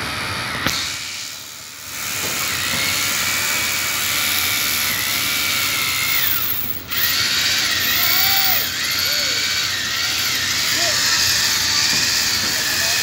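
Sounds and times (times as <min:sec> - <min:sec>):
power drill whining: 0:00.1 - 0:13.0.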